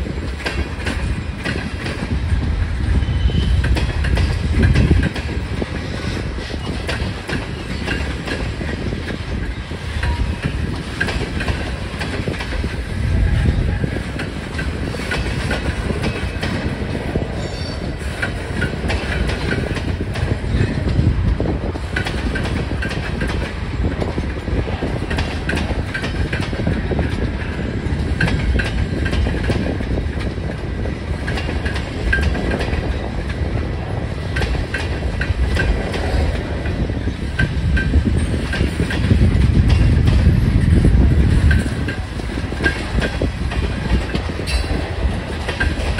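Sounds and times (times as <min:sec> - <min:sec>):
train wheels clacking over rail joints: 0:00.0 - 0:13.0, 0:13.6 - 0:45.9
wind on microphone: 0:00.0 - 0:45.9.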